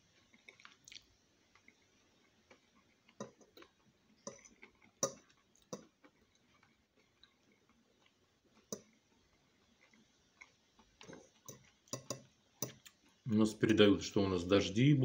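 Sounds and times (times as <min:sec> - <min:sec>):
person chewing with mouth clicks: 0:00.1 - 0:13.2.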